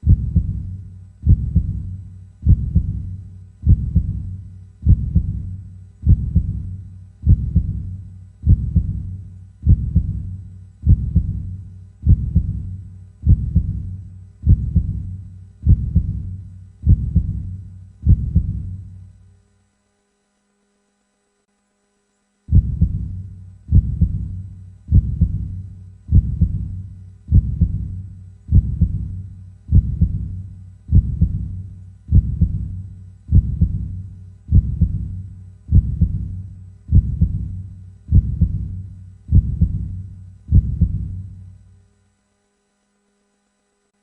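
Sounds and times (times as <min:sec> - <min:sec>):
heartbeat thumps: 0:00.0 - 0:19.0, 0:22.5 - 0:41.5.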